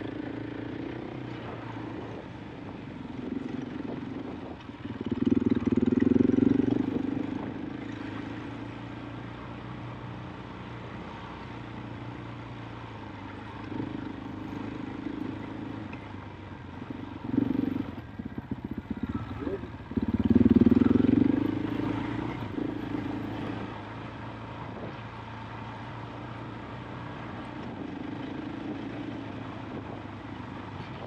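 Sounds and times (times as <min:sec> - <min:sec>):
motorcycle engine running at low revs: 0:00.0 - 0:31.0.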